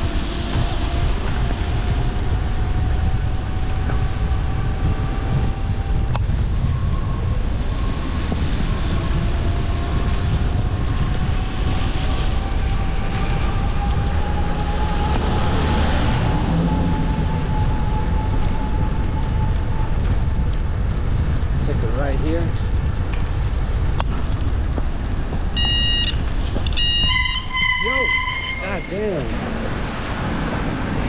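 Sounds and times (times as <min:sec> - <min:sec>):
wind and road noise rumble: 0:00.0 - 0:31.0.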